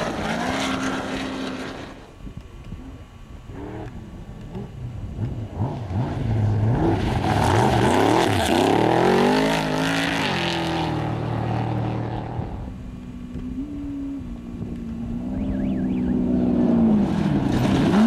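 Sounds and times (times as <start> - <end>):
off-road vehicle engine revving: 0.0 - 2.1, 3.5 - 18.0.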